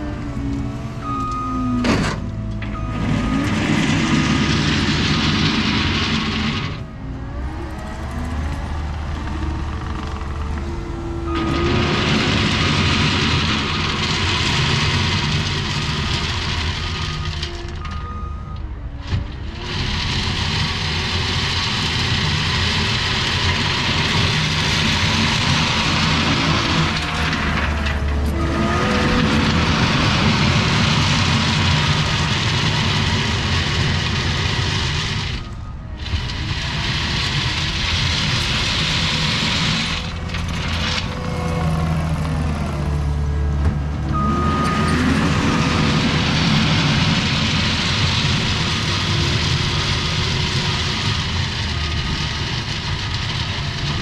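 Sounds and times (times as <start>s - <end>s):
track loader diesel engine: 0.0s - 54.0s.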